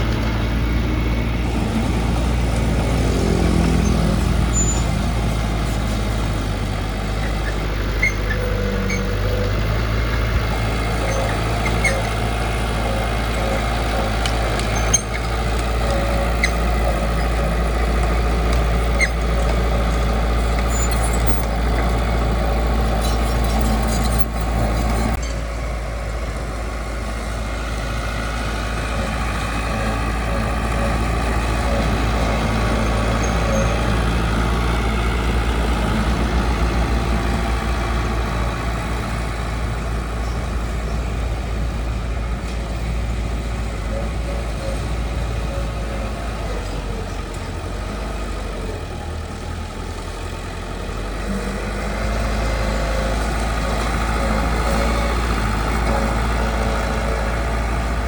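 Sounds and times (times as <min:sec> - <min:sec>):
diesel machinery rumbling: 0:00.0 - 0:58.0.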